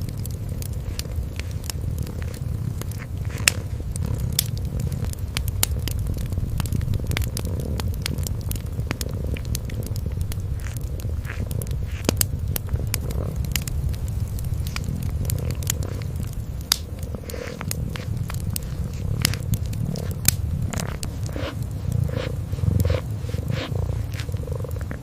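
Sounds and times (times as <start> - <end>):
kitten purring: 0.0 - 25.0
wood fire crackling and popping: 0.0 - 25.0.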